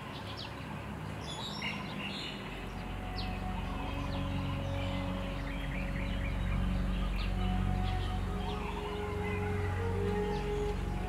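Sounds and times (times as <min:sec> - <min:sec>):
low steady hum: 0:00.0 - 0:11.0
wild birds chirping: 0:00.0 - 0:11.0.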